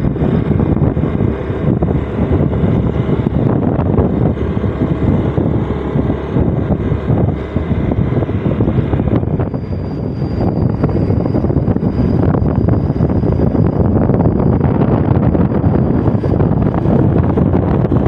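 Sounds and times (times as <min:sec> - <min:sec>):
vehicle running on road: 0:00.0 - 0:18.0
wind buffeting microphone: 0:00.0 - 0:18.0.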